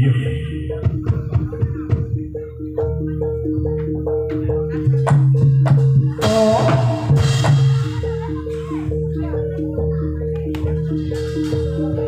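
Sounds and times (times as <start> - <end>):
metallophones repeating pattern: 0.0 - 12.0.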